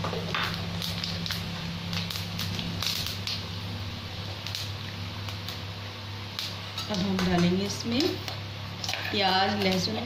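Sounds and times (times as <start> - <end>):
seeds sizzling in hot oil: 0.0 - 10.0
steady low hum: 0.0 - 10.0.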